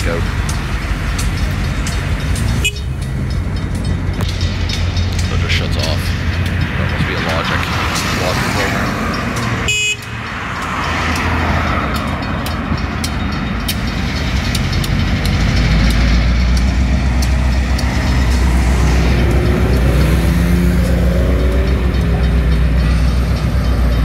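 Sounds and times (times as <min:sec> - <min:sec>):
deep engine rumble: 0:00.0 - 0:24.0
vehicles passing: 0:00.0 - 0:24.0.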